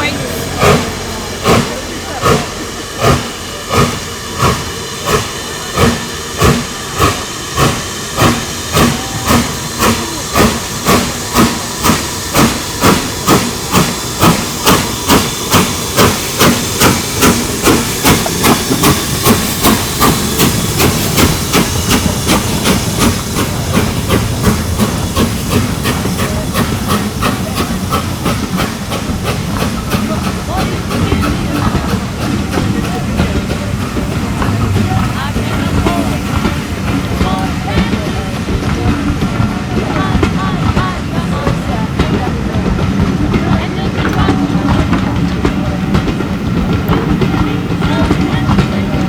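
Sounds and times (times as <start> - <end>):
steam hissing: 0.0 - 49.0
steam locomotive exhaust beats: 0.0 - 49.0.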